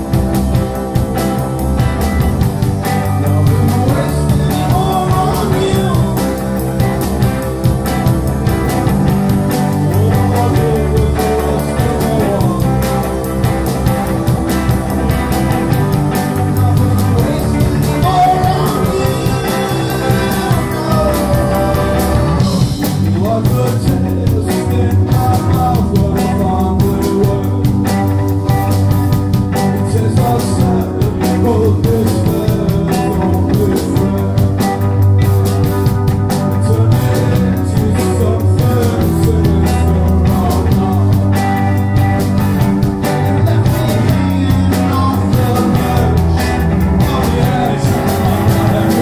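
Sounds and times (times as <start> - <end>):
drums and cymbals: 0.0 - 49.0
live rock band playing: 0.0 - 49.0.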